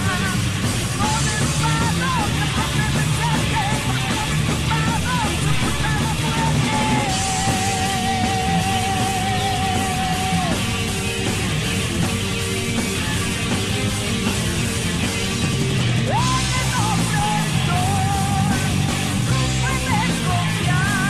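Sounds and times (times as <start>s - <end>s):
power metal band: 0.0s - 21.0s.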